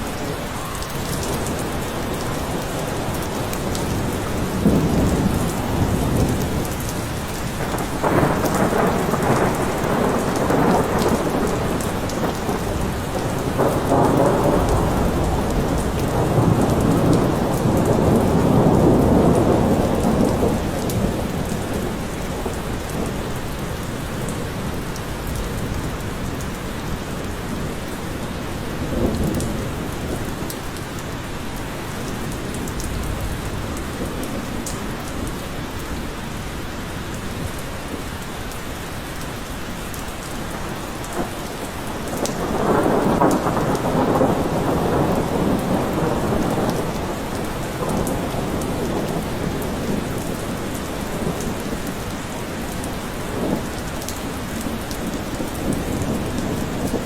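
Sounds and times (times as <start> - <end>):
rolling thunder: 0.0 - 30.7, 40.3 - 57.0
heavy rain: 0.0 - 57.0.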